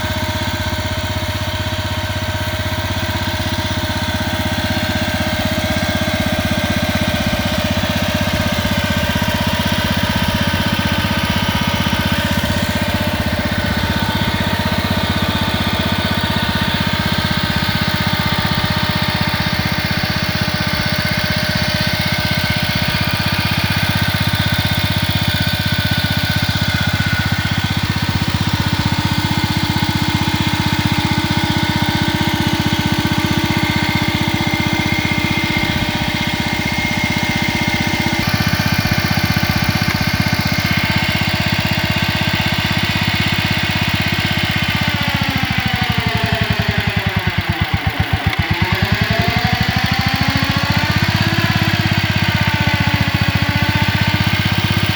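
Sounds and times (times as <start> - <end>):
tractor engine running steadily: 0.0 - 54.9.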